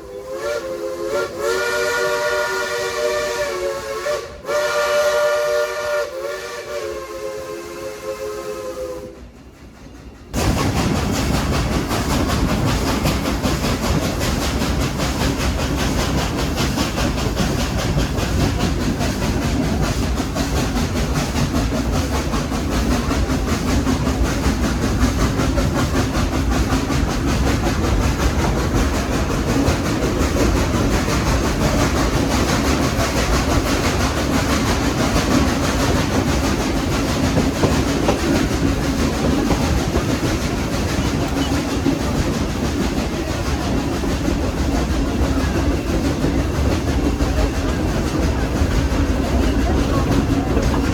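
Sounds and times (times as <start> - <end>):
steam locomotive working: 0.0 - 50.9
train wheels on rails: 0.0 - 50.9.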